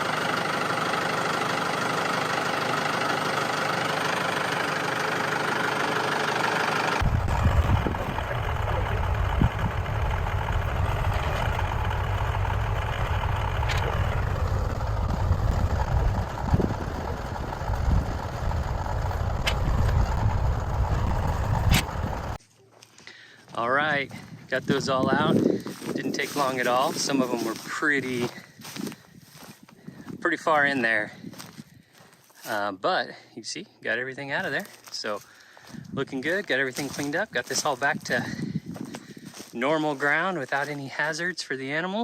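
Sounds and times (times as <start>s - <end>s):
tractor engine running: 0.0s - 22.4s, 24.0s - 32.6s, 34.3s - 41.8s.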